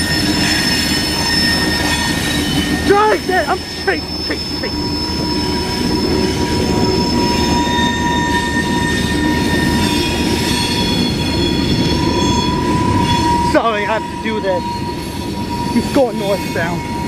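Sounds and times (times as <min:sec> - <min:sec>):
low rumble of train: 0:00.0 - 0:17.0
train wheels squealing: 0:00.0 - 0:17.0.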